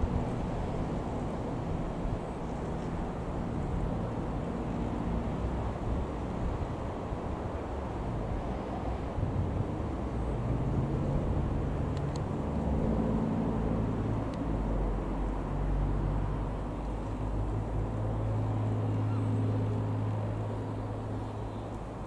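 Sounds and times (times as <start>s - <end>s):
light aircraft engine droning overhead: 0.0s - 22.0s.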